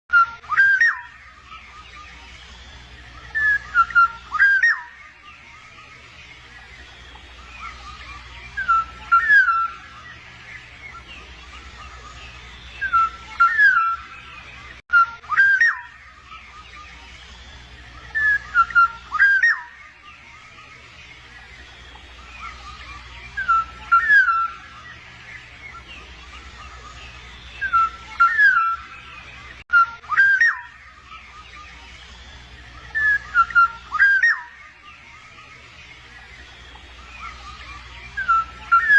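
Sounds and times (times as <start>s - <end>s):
bird fluty whistled calls: 0.1s - 5.8s, 6.5s - 20.6s, 21.4s - 35.0s, 36.2s - 38.9s
low steady hum: 0.1s - 38.9s.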